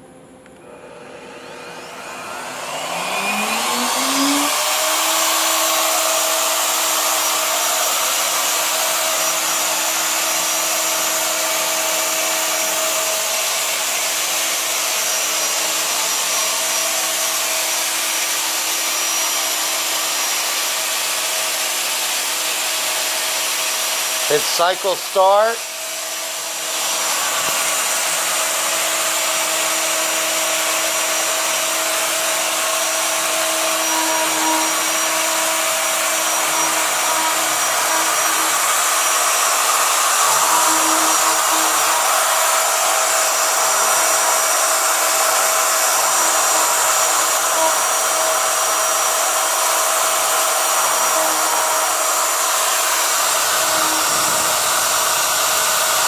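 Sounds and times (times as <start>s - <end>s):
router motor high whine: 0.0s - 56.0s.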